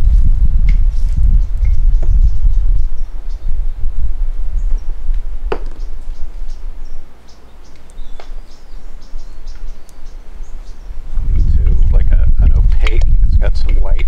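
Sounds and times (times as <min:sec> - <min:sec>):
wind rumble on microphone: 0:00.0 - 0:14.0
birds chirping: 0:00.8 - 0:14.0.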